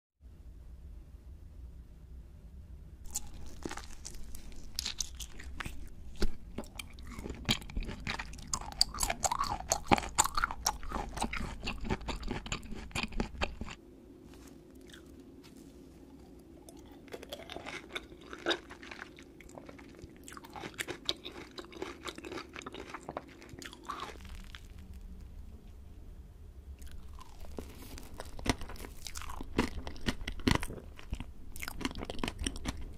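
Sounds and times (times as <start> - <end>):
wet chewing and crunching: 3.1 - 25.0, 26.8 - 32.9.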